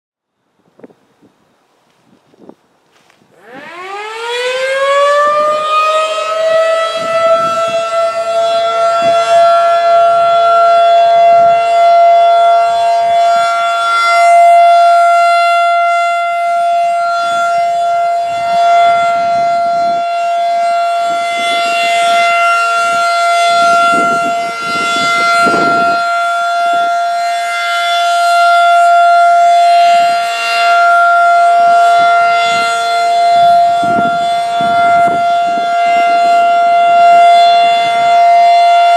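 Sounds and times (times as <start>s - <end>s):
warning siren wailing: 3.3s - 38.9s.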